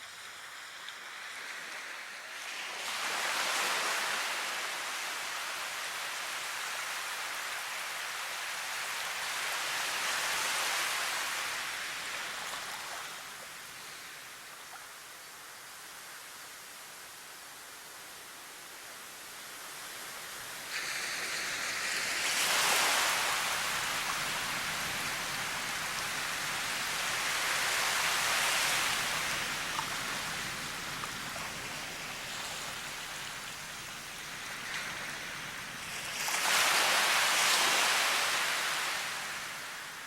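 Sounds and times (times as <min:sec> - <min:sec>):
rushing water hiss: 0:00.0 - 0:40.0.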